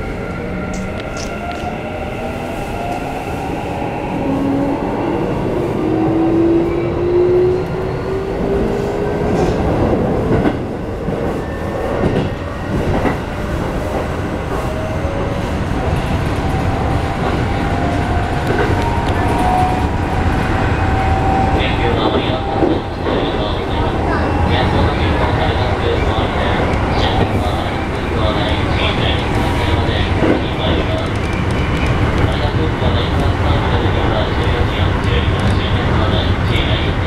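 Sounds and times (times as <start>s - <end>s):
train running gear rumble: 5.8s - 37.0s.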